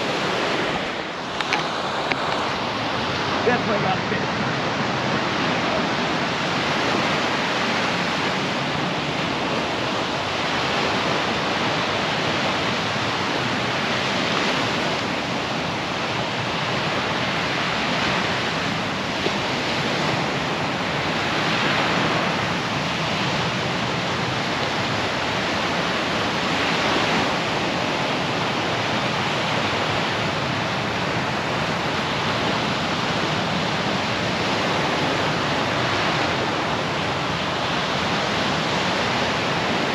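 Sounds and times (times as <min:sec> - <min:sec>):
surf breaking on sandy beach: 0:00.0 - 0:39.9.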